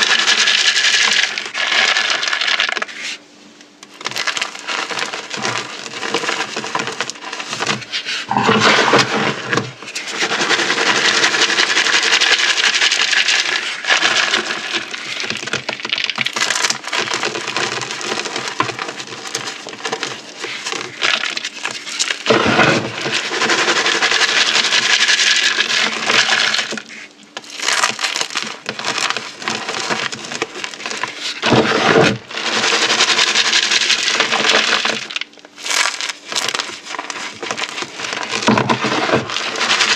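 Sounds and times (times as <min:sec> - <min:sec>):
water beads and chalk crunching: 0:00.0 - 0:03.2, 0:03.9 - 0:39.9.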